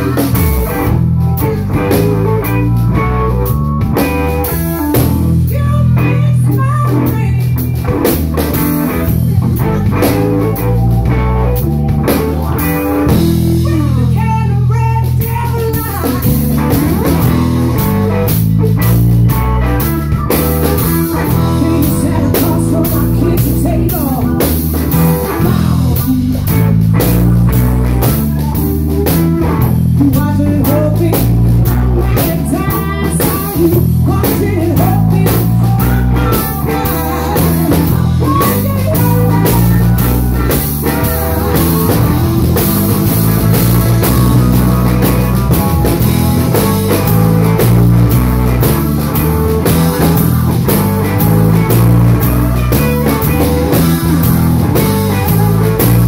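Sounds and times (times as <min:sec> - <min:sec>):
electric blues band playing: 0:00.0 - 0:56.0
sliding bending guitar notes: 0:00.0 - 0:56.0.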